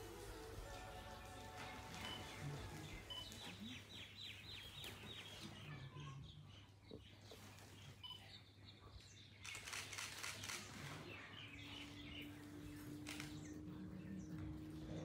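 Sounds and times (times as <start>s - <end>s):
faint bird chirps: 1.9s - 15.0s.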